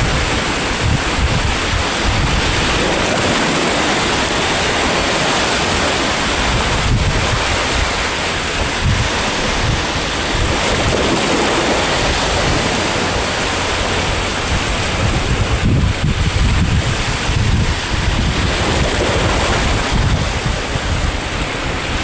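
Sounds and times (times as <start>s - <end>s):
sea waves washing onto shore: 0.0s - 22.0s
wind buffeting microphone: 0.0s - 22.0s.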